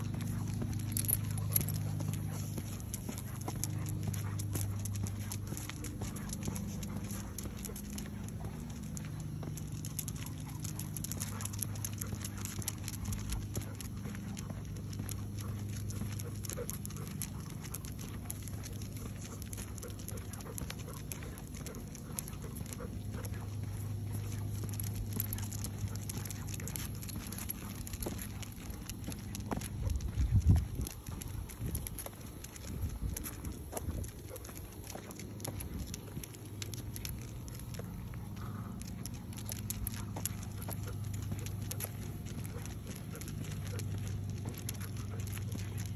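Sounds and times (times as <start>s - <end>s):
footsteps on concrete: 0.0s - 45.9s
steady low hum: 0.0s - 45.9s.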